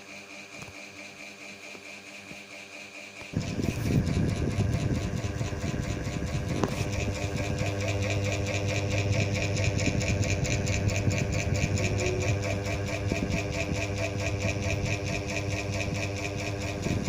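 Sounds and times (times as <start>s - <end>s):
ceiling fan motor humming: 0.0s - 17.0s
fan click: 3.2s - 17.0s.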